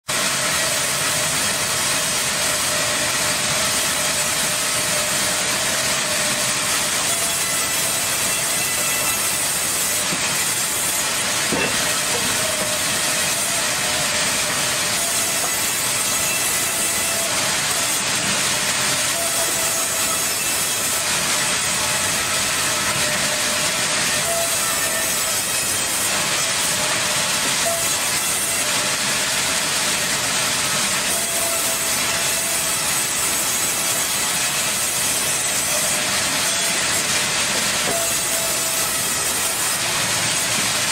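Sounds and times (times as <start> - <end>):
band saw cutting through log: 0.0 - 40.9.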